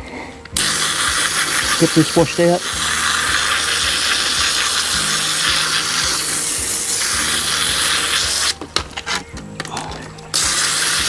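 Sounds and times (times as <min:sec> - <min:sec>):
water spraying from a hose: 0:00.5 - 0:09.2, 0:10.3 - 0:11.0.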